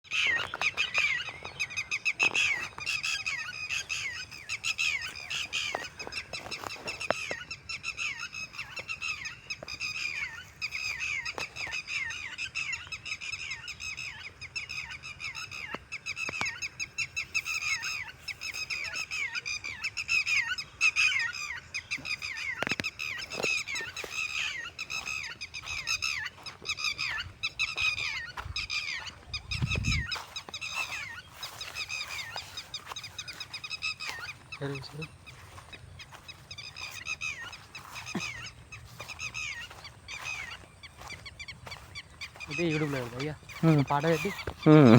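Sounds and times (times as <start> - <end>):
flock of birds chirping: 0.0 - 44.9.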